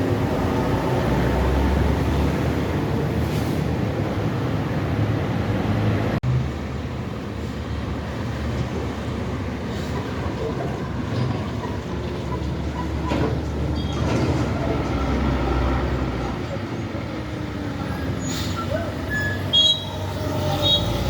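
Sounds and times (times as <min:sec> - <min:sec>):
heavy trucks engine and tyre rumble: 0:00.0 - 0:21.0.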